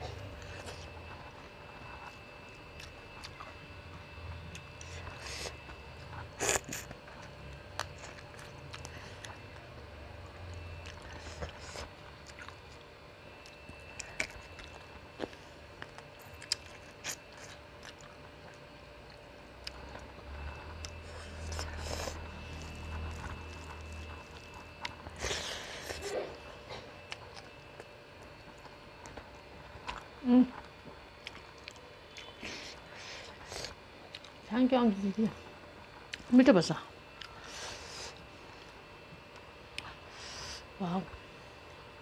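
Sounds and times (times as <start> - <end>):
close chewing: 0.3 - 34.4.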